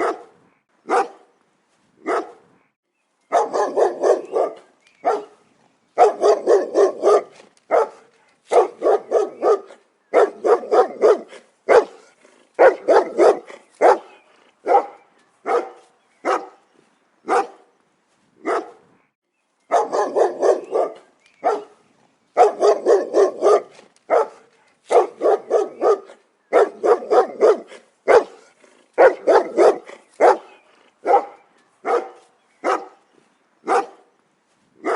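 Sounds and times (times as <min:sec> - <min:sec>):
dog barking: 0:00.0 - 0:01.3, 0:02.0 - 0:02.4, 0:03.3 - 0:05.4, 0:06.0 - 0:16.6, 0:17.3 - 0:17.6, 0:18.4 - 0:18.8, 0:19.7 - 0:21.8, 0:22.4 - 0:33.0, 0:33.6 - 0:34.1.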